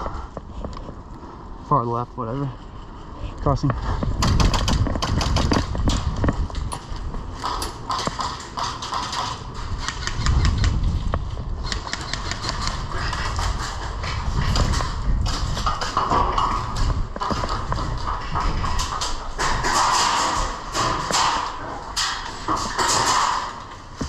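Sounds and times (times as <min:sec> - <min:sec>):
low rumble of movement: 0:00.0 - 0:24.0
footsteps: 0:03.6 - 0:24.0.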